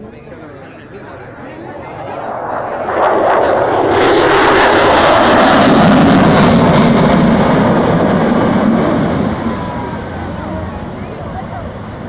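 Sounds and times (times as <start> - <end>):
jet engine roar: 0.6 - 12.0.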